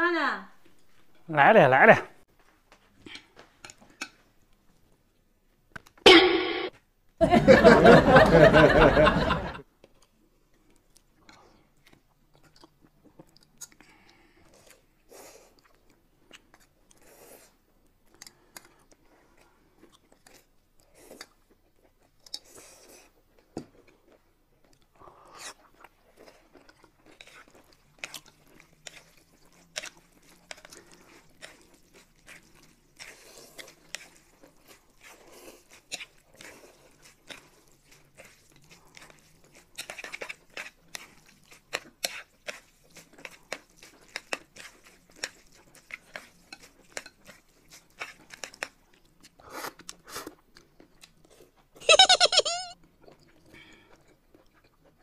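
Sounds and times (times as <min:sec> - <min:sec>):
slurping and chewing noodles: 0:07.7 - 0:55.0.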